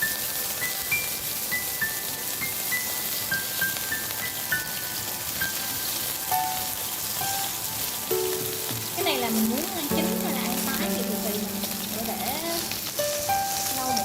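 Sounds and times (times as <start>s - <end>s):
oil sizzling in a frying pan: 0.0s - 14.0s.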